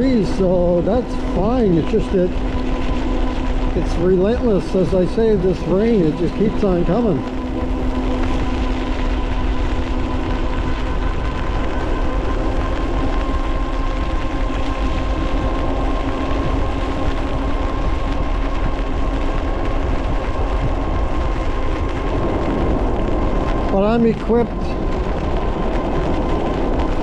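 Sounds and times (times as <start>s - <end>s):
electric motor whine: 0.0s - 27.0s
wind on microphone: 0.0s - 27.0s.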